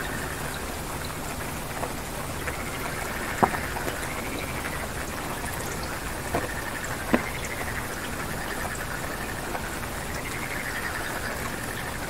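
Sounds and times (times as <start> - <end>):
loud water drips: 0.0 - 12.0
rain pattering: 0.0 - 12.0.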